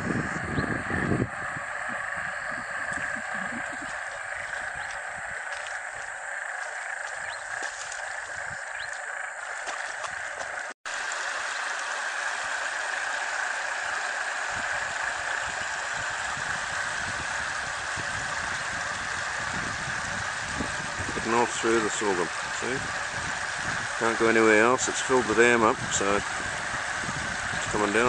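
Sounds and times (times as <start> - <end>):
floodwater rushing: 0.0 - 28.0
frogs calling: 0.0 - 28.0.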